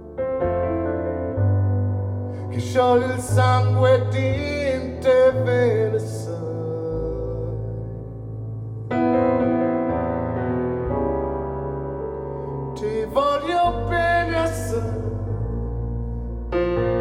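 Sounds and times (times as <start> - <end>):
piano slow chords: 0.0 - 17.0.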